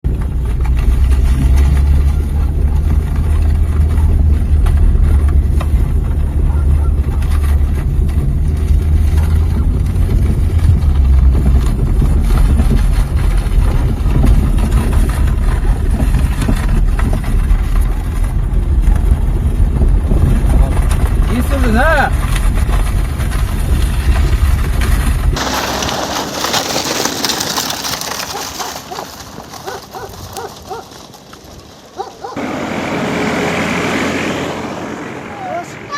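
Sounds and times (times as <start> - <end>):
vehicle engine droning: 0.0 - 35.9.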